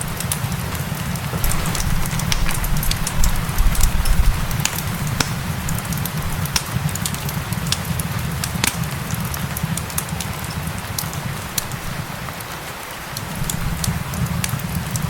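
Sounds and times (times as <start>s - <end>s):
wood fire crackling and popping: 0.0s - 12.1s, 13.1s - 15.0s
rain hissing: 0.0s - 15.0s.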